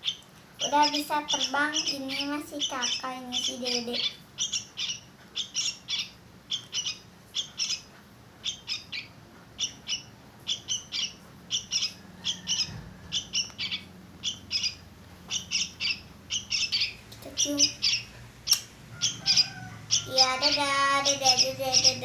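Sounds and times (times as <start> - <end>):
fledgling birds chirping: 0.0 - 22.0.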